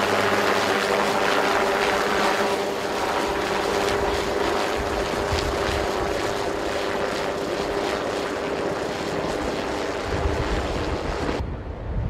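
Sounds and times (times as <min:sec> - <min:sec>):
helicopter turbine whine and rotor: 0:00.0 - 0:12.0.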